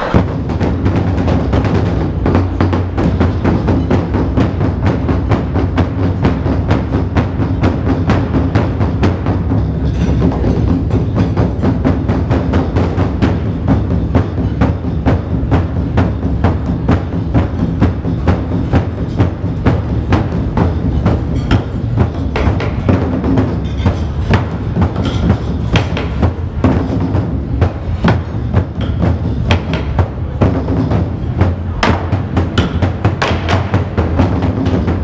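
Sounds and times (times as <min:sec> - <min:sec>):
large barrel drums beaten: 0:00.0 - 0:35.0.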